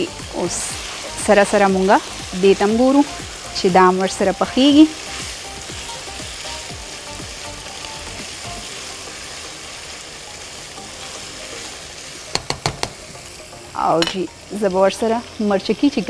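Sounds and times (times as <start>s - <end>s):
meat sizzling in frying pan: 0.0s - 16.0s.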